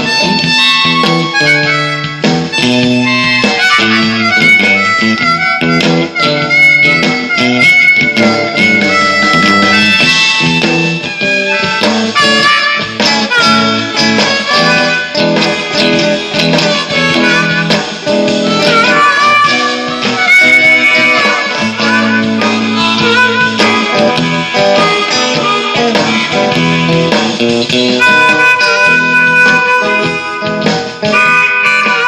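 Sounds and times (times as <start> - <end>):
bluesy harmonica: 0.0 - 32.0
guitar accompaniment: 0.0 - 32.0.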